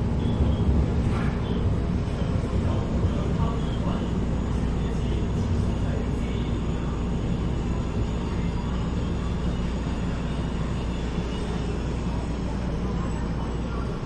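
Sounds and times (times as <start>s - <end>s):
train equipment hum and rumble: 0.0s - 14.0s.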